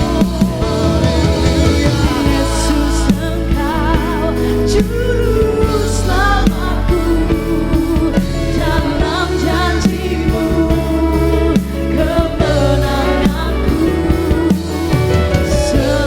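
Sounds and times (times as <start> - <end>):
live band with drums and bass: 0.0 - 16.0
person singing: 0.0 - 16.0.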